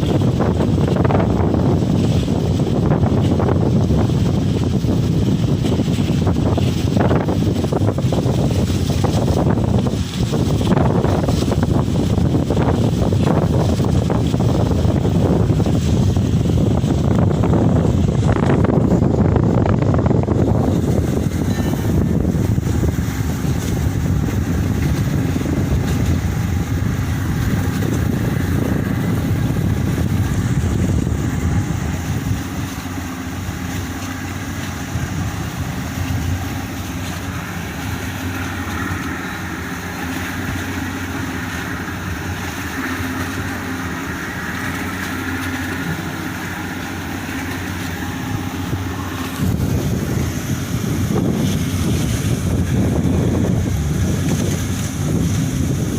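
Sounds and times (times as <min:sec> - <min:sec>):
ferry engine drone: 0:00.0 - 0:55.9
wind buffeting microphone: 0:00.0 - 0:55.9.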